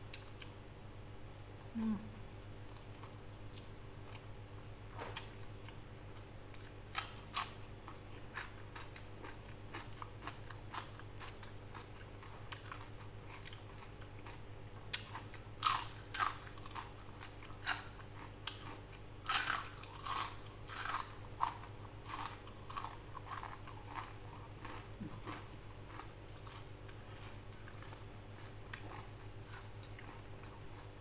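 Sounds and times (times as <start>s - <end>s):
person chewing and crunching food: 0.1s - 0.6s, 2.6s - 4.4s, 5.0s - 31.0s.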